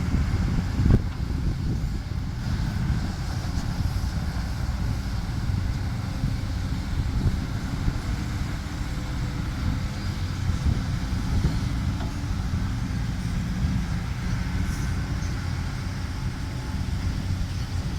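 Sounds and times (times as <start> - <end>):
diesel engine rumbling: 0.0 - 17.9.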